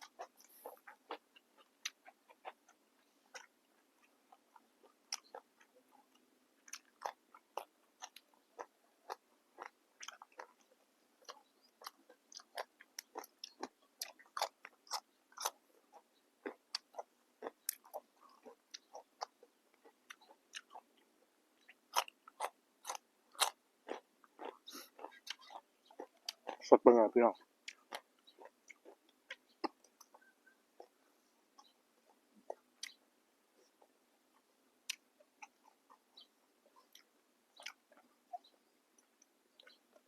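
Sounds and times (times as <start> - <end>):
person chewing crisp vegetables: 0.0 - 40.0.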